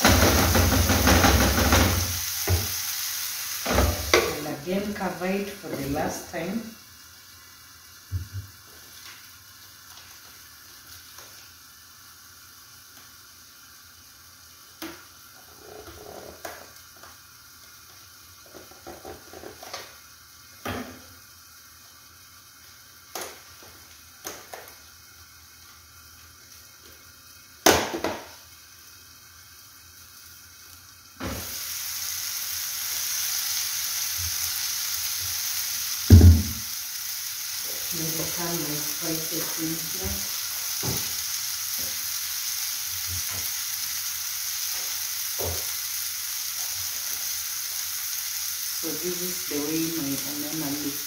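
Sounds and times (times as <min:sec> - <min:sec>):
food sizzling in frying pan: 0:00.0 - 0:51.0.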